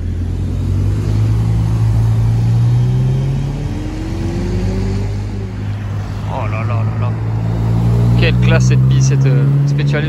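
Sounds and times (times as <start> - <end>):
higher engine note rising: 0.0 - 10.0
low engine pulling away: 0.0 - 10.0.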